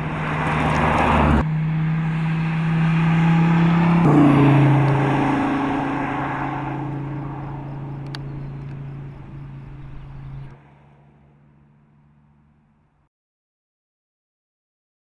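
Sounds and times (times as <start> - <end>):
car engine running steadily: 0.0 - 13.0.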